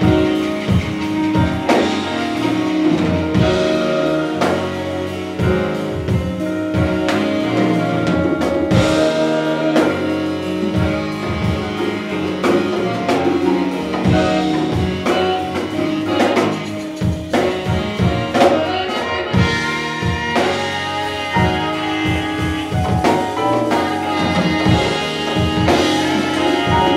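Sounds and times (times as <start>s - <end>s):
bass: 0.0s - 26.9s
drum kit: 0.0s - 26.9s
percussion: 0.0s - 26.9s
saxophone line: 0.0s - 26.9s.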